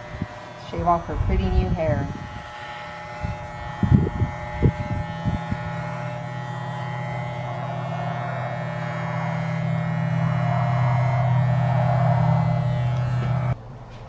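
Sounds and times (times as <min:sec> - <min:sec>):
electric hair clippers buzzing: 0:00.0 - 0:13.6.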